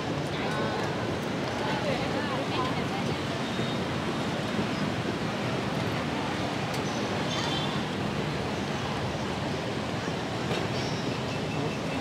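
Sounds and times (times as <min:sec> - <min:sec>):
motorbike and car traffic: 0:00.0 - 0:12.0.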